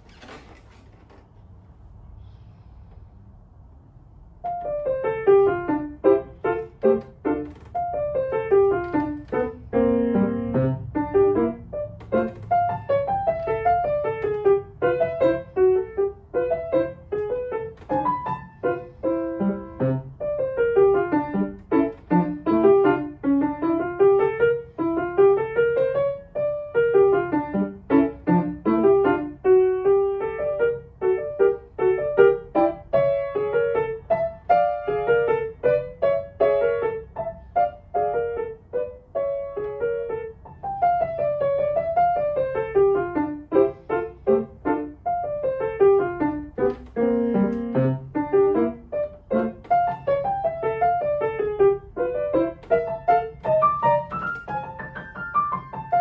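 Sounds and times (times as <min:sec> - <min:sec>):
lively solo piano piece: 0:04.4 - 0:56.0.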